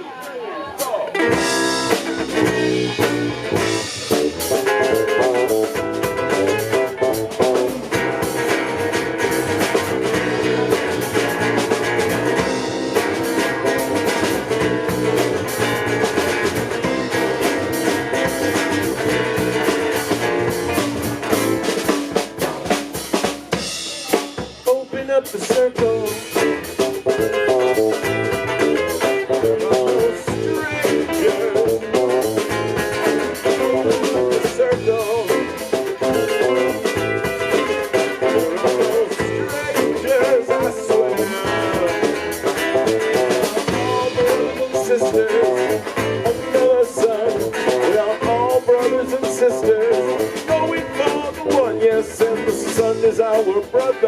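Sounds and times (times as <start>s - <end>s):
drum kit: 0.0s - 54.0s
electric guitar: 1.1s - 54.0s.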